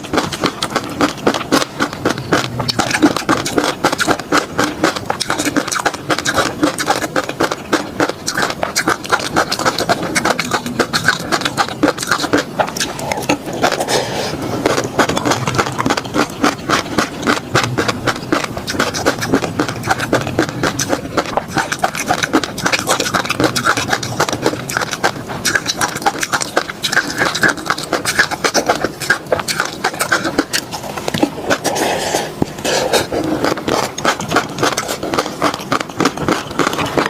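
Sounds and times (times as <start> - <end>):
wet mouth clicks and smacks: 0.2 - 14.0, 14.6 - 37.0.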